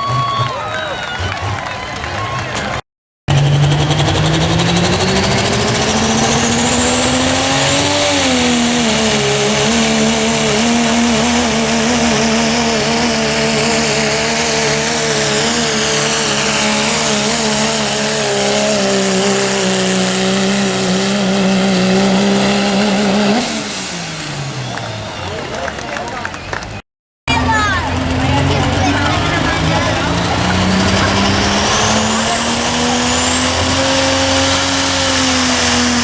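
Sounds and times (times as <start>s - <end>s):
diesel truck engine revving: 0.0s - 36.0s.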